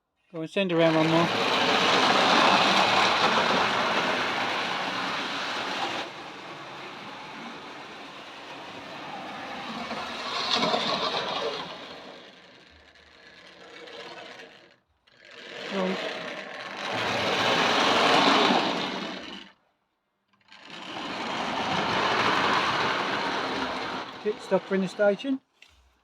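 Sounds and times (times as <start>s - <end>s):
model train whirring on track: 0.7s - 19.6s, 20.4s - 25.4s.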